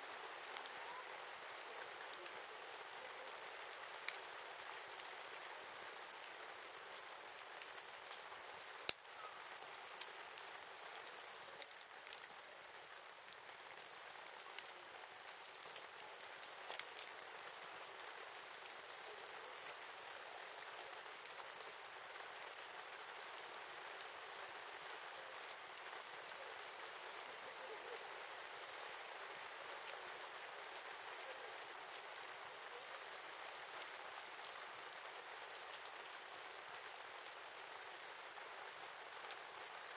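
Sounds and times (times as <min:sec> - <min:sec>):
campfire crackling and popping: 0:00.2 - 0:39.9.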